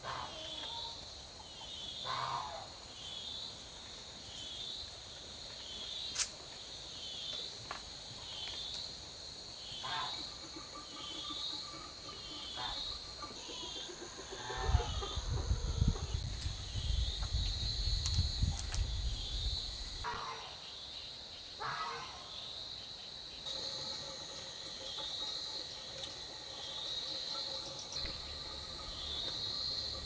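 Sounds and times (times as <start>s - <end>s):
continuous high buzz: 0.0s - 30.0s
insects chirping: 0.0s - 30.0s.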